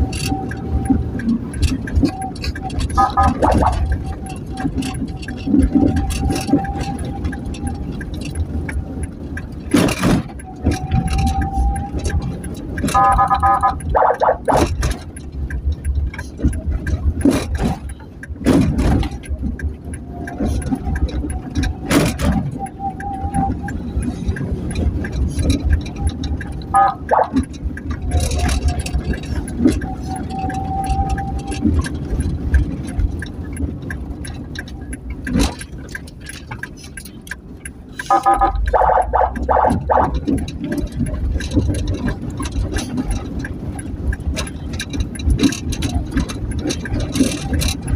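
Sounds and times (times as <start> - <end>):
pitched tone with stacked tones: 0.0 - 9.5, 10.2 - 36.4, 37.9 - 47.9
engine and road rumble: 0.0 - 47.9.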